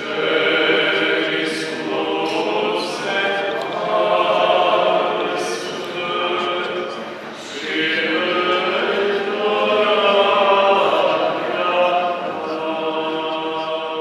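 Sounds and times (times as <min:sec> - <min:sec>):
choir chanting unaccompanied: 0:00.0 - 0:14.0.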